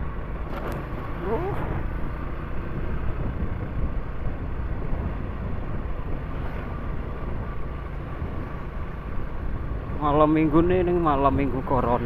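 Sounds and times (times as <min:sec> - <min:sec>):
motorcycle engine and road drone: 0:00.0 - 0:12.0
wind noise on microphone: 0:00.4 - 0:10.8.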